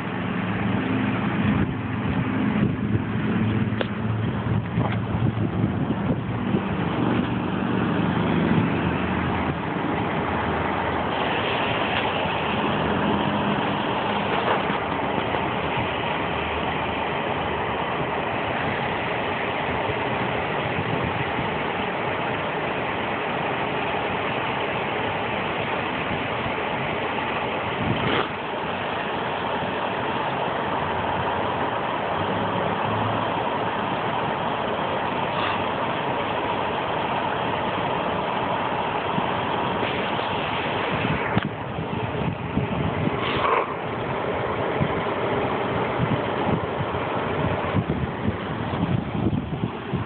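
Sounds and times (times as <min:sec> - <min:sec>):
electric fan whirring drone: 0:00.0 - 0:50.0.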